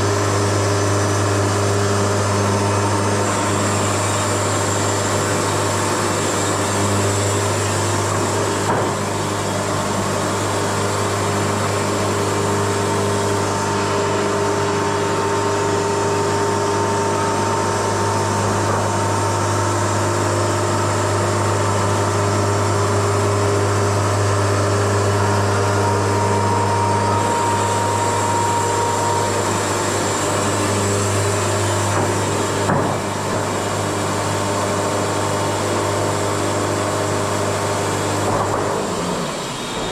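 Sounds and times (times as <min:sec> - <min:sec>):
band sawmill engine hum: 0:00.0 - 0:39.9.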